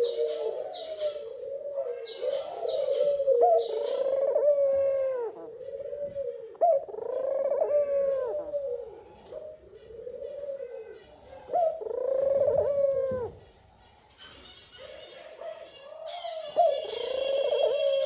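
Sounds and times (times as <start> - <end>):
doves cooing: 0.0 - 18.0.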